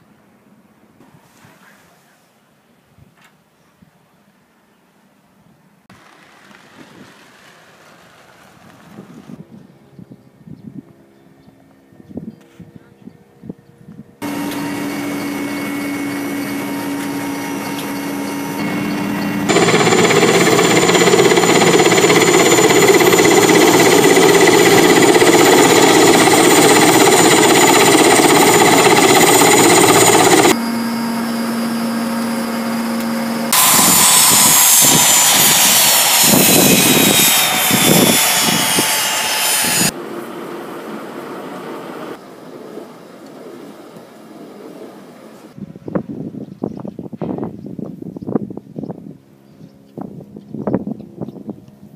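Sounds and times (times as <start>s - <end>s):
helicopter engines and rotor running: 6.0s - 45.6s, 48.5s - 51.9s.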